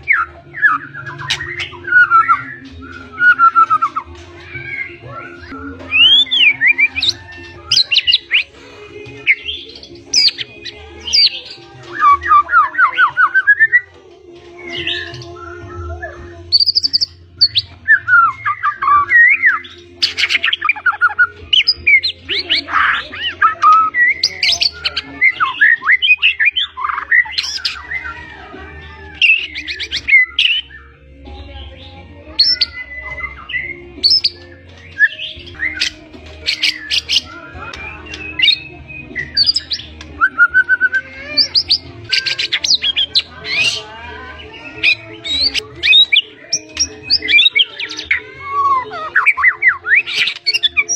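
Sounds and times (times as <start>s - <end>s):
songbird singing varied song: 0.0s - 28.4s, 29.0s - 50.9s.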